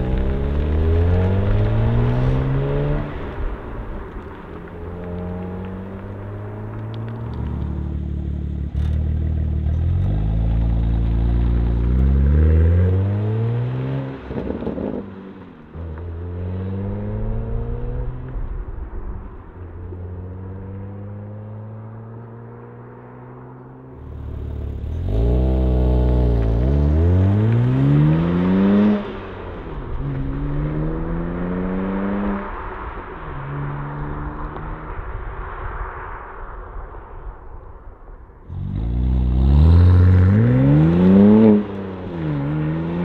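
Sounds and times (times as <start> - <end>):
car engine accelerating through upshifts: 0.0 - 3.7, 4.6 - 18.5, 20.0 - 34.9, 38.5 - 43.0.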